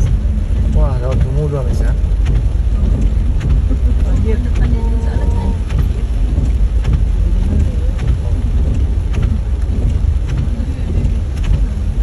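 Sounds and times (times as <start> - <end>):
heavy rain: 0.0 - 12.0
low rumble: 0.0 - 12.0.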